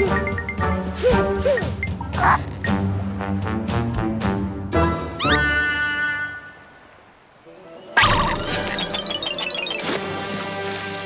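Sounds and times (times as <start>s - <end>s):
cartoon background music: 0.0s - 6.5s, 7.6s - 11.0s.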